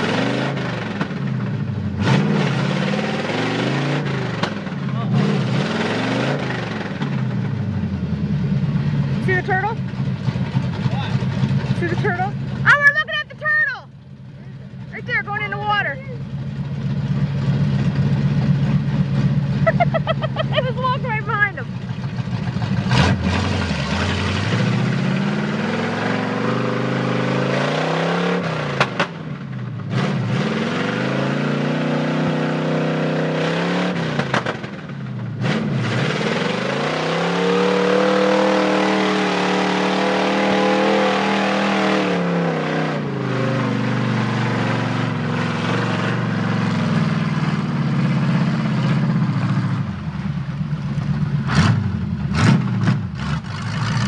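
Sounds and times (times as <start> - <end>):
pickup engine revving: 0.0 - 54.0.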